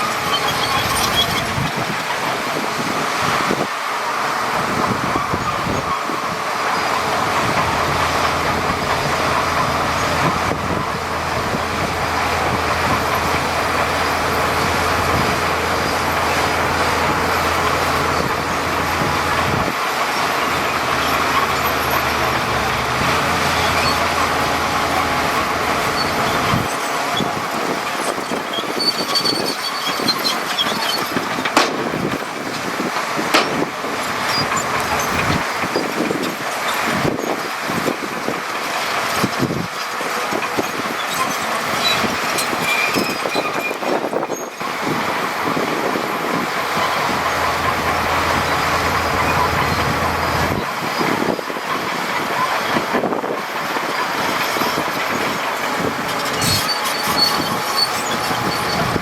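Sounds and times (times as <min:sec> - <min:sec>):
heavy diesel machinery engine hum: 0:00.0 - 0:59.0.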